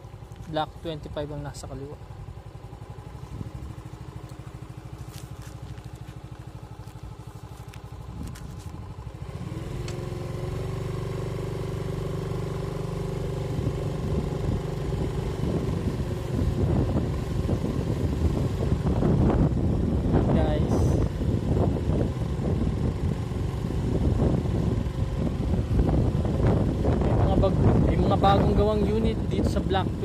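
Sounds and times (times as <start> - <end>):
motorcycle engine: 0.0 - 30.0.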